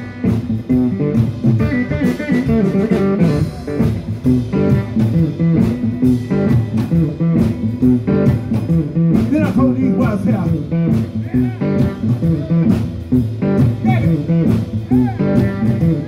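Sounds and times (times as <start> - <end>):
drum beat: 0.0 - 16.0
electric guitar riff: 0.0 - 16.0.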